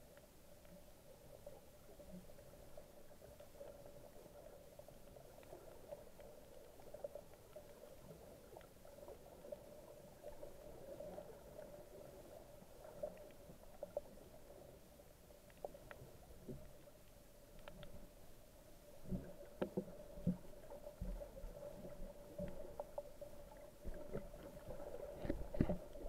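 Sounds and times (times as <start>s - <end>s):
low underwater hum: 0.0s - 26.0s
small underwater clicks: 0.0s - 26.0s.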